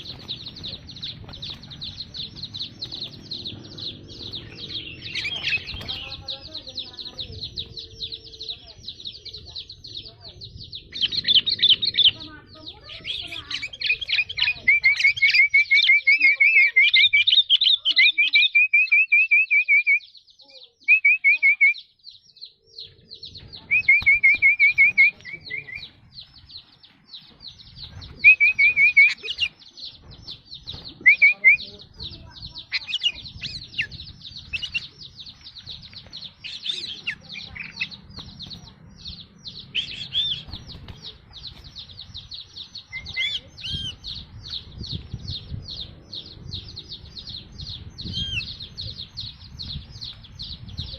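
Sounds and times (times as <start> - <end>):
steady high twittering: 0.0 - 20.8, 21.6 - 50.9
bulbul singing rapid repeated notes: 0.0 - 50.9.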